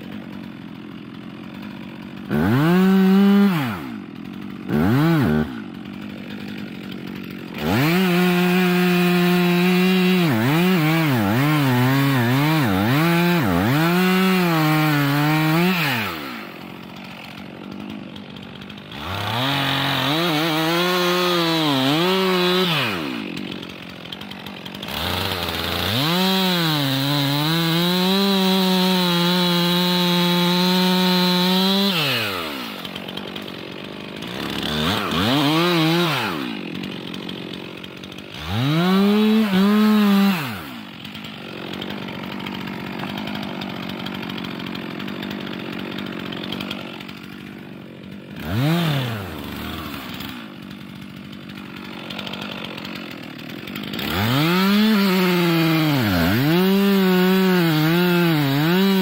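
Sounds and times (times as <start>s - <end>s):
chainsaw cutting wood: 0.0s - 59.0s
chainsaw idling: 0.0s - 59.0s.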